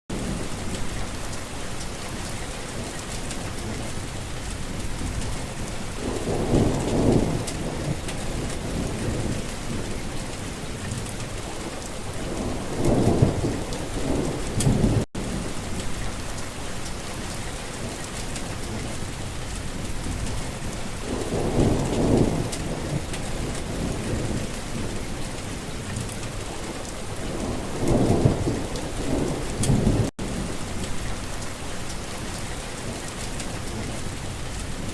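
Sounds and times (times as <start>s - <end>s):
steady rain falling: 0.1s - 34.9s
thunder rumbling: 0.1s - 34.9s.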